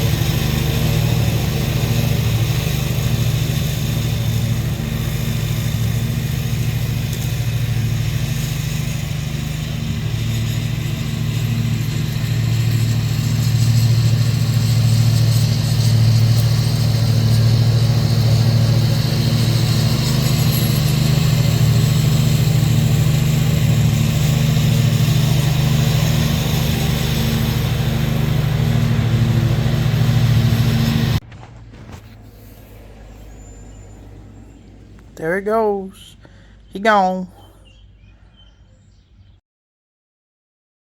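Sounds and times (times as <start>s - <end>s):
mower engine running: 0.0s - 38.0s.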